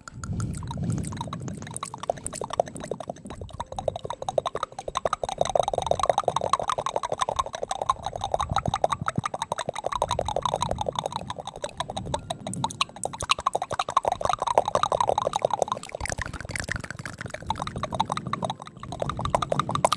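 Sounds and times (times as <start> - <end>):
wet tongue clicks and lip pops: 0.0 - 19.9.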